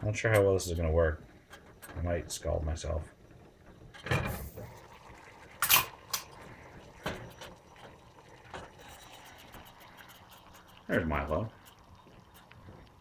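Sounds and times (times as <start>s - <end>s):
pot being handled: 0.1s - 13.0s.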